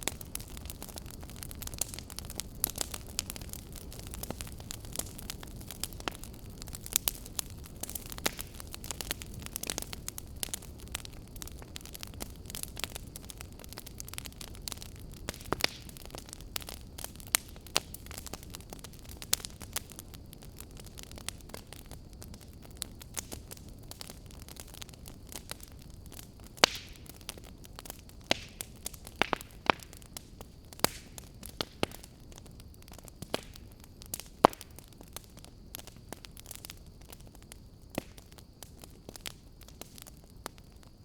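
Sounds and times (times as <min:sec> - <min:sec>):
fire crackling and popping: 0:00.0 - 0:41.0
low rumble of burning: 0:00.0 - 0:41.0.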